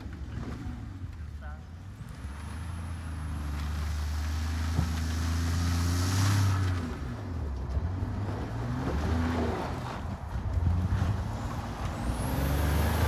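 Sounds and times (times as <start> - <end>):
tyres spinning in snow: 0.0 - 13.0
pickup engine revving: 1.9 - 13.0.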